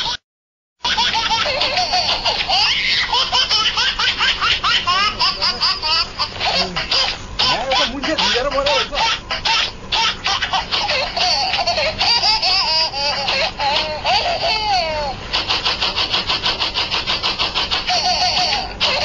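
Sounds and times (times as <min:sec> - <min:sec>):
rapid laughter: 0:00.8 - 0:19.0.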